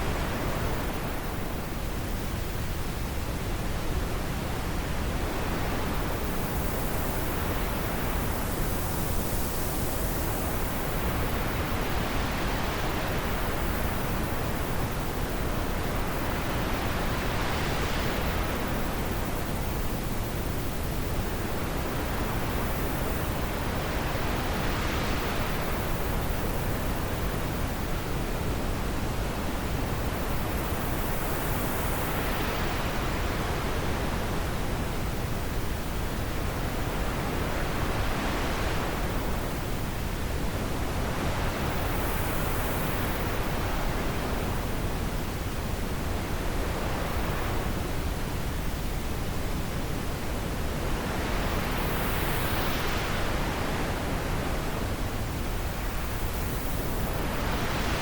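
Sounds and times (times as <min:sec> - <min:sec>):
wind blowing in gusts: 0:00.0 - 0:58.0.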